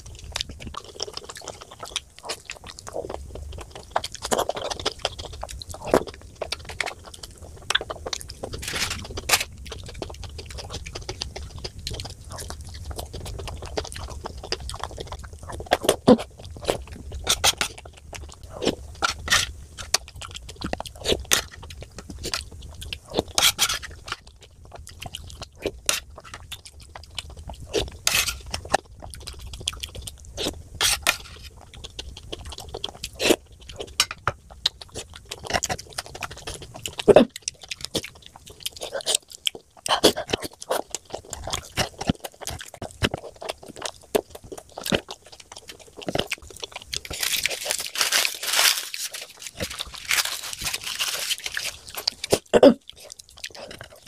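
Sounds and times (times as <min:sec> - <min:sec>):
moist crunchy chewing: 0:00.0 - 0:54.0.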